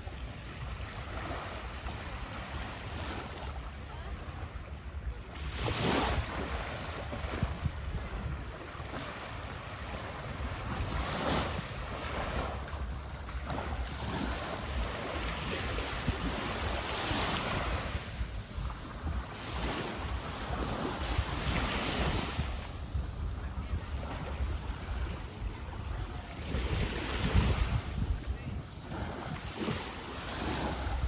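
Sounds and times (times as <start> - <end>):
waves washing onto sand: 0.0 - 31.0
wind buffeting microphone: 0.0 - 31.0.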